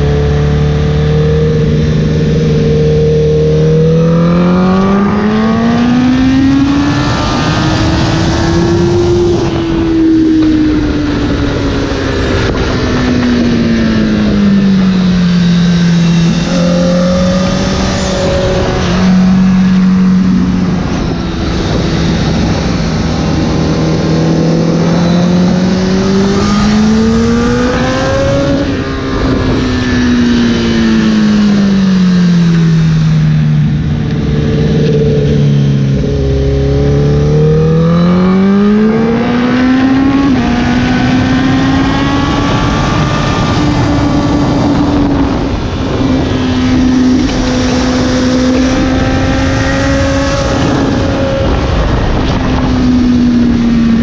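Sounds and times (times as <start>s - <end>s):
motorcycle engine at speed: 0.0s - 54.0s
wind rushing: 3.7s - 54.0s.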